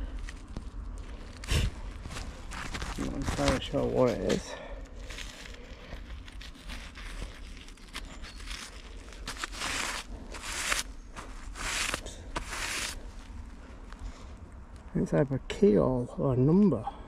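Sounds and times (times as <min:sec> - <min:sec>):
soil rustling and crunching: 0:00.0 - 0:15.4.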